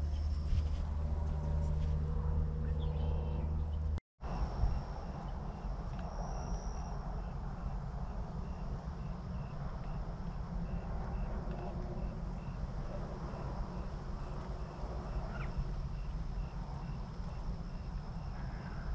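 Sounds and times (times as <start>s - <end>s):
low rumble: 0.0s - 18.9s.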